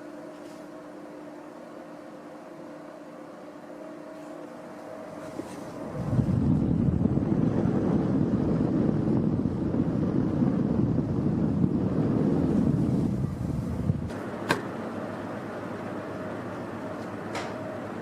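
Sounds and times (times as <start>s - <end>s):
fan airflow buffeting microphone: 0.0s - 18.0s.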